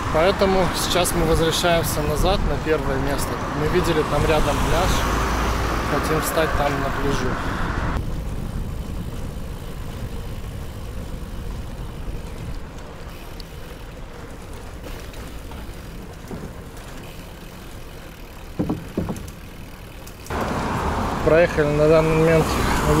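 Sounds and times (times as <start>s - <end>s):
bicycle rumbling over wooden planks: 0.0s - 23.0s.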